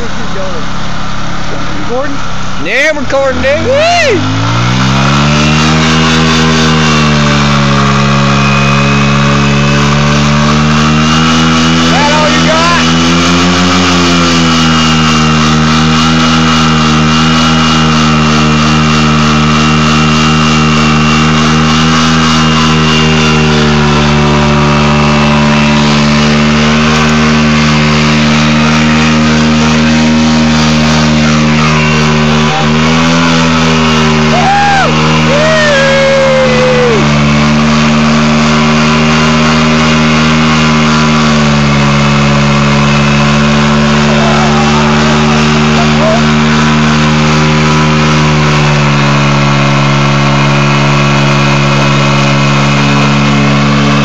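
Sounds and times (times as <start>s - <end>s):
scooter engine at high revs: 0.0s - 54.0s
tyre squealing: 2.6s - 37.3s, 37.9s - 49.4s.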